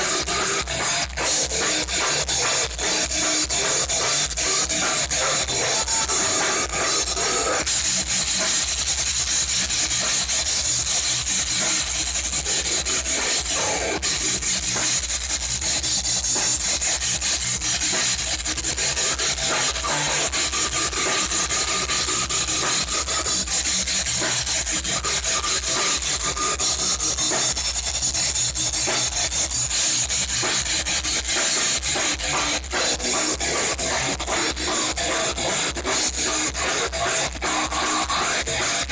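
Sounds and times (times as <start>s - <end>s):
live metal band playing: 0.0s - 38.9s.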